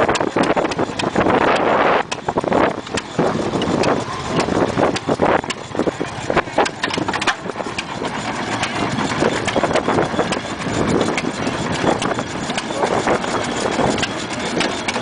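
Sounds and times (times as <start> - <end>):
stationary gas engines popping: 0.0 - 15.0.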